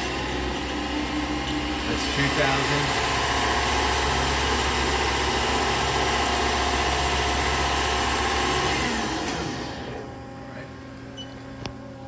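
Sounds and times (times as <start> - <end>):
lathe spindle whine: 0.0 - 10.5.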